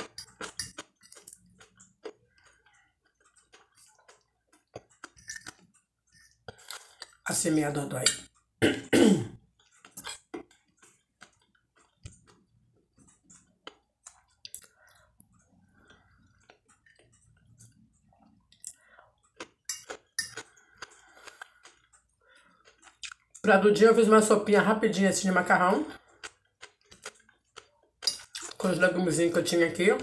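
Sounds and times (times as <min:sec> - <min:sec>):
soft chewing and mouth clicks: 0:00.0 - 0:07.2, 0:09.4 - 0:23.5, 0:25.8 - 0:28.7.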